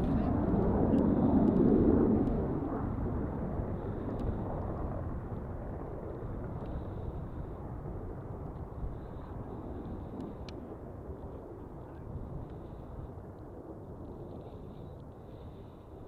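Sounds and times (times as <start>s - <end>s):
helicopter rotor rumble: 0.0s - 16.0s.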